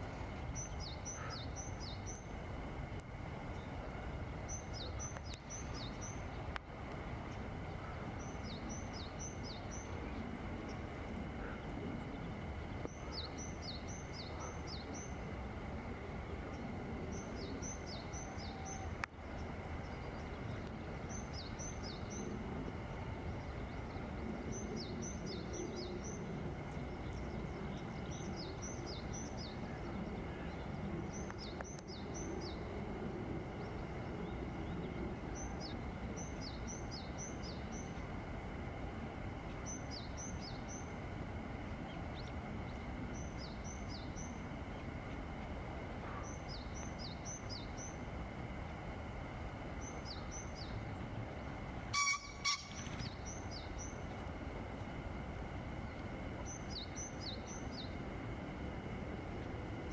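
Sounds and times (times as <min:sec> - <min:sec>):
outdoor background noise: 0:00.0 - 0:59.9
songbird singing: 0:00.0 - 0:59.9.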